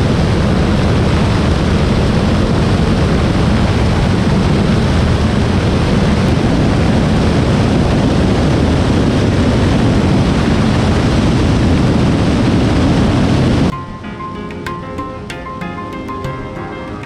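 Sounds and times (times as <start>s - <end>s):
light aircraft engine roar: 0.0s - 13.8s.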